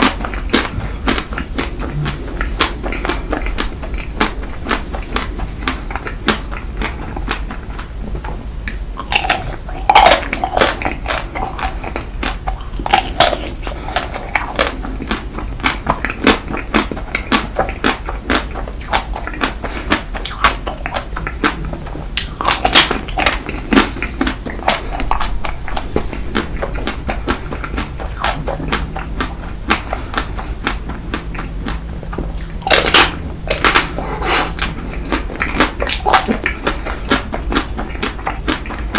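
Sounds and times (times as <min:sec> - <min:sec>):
chewing and biting food: 0:00.0 - 0:38.9
crunching: 0:00.0 - 0:38.9.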